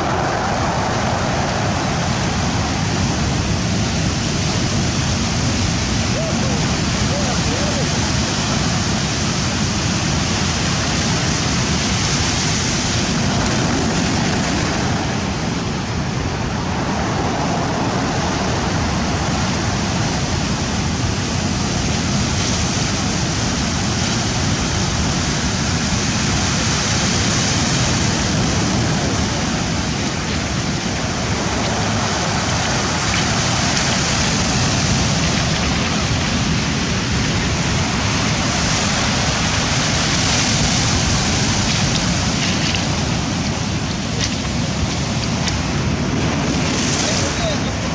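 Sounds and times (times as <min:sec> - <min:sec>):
sea surf breaking on shore: 0:00.0 - 0:47.9.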